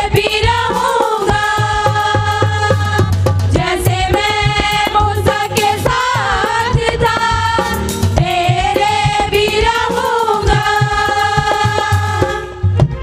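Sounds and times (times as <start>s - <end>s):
steady drum beats: 0.0s - 13.0s.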